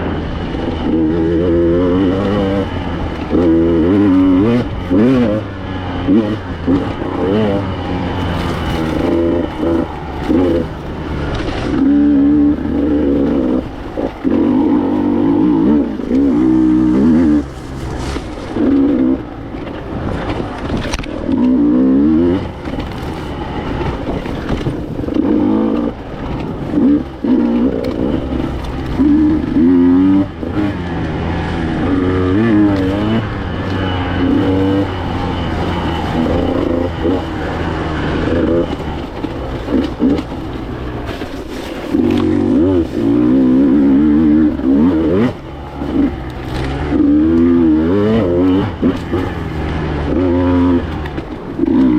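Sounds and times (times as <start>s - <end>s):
two-stroke motorcycle revving: 0.0s - 51.9s.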